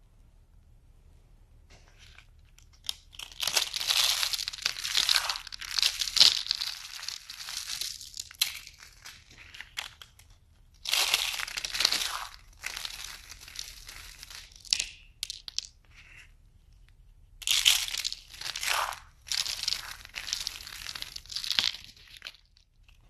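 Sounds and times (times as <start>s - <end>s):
dried soap crackling crunch: 1.8s - 23.0s.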